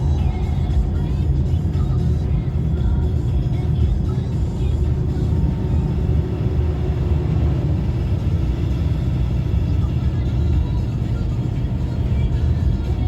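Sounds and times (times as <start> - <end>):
tunnel traffic rumble: 0.0 - 13.0.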